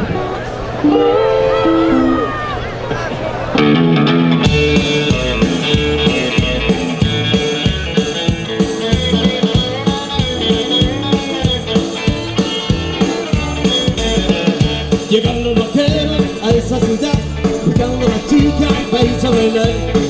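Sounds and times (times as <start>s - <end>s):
electric guitars: 0.0s - 20.0s
upright bass: 3.5s - 20.0s
drum kit beat: 3.6s - 20.0s.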